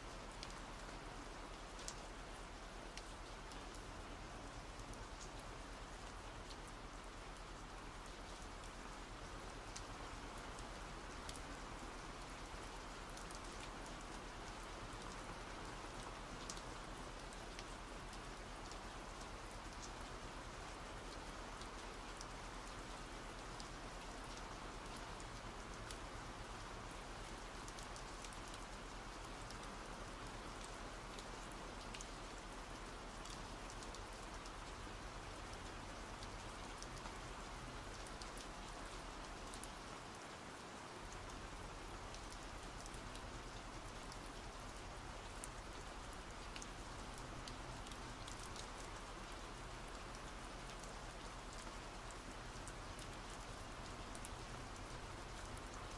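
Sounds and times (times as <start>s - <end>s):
soft rain: 0.0s - 55.9s.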